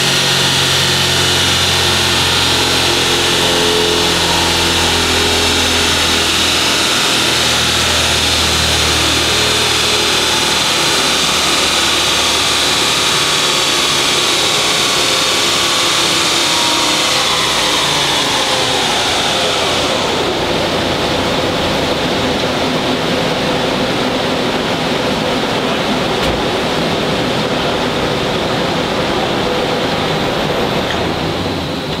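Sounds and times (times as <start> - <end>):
dyno rollers whining: 0.0 - 32.0
steady rushing noise: 0.0 - 32.0.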